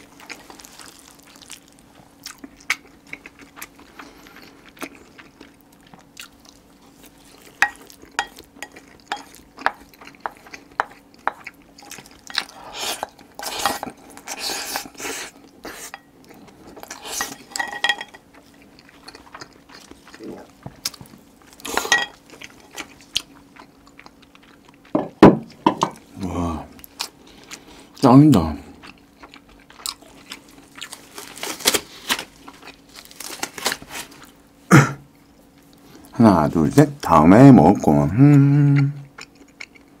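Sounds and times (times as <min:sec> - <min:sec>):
chewing food: 0:00.0 - 0:28.0, 0:28.6 - 0:34.4, 0:38.7 - 0:40.0.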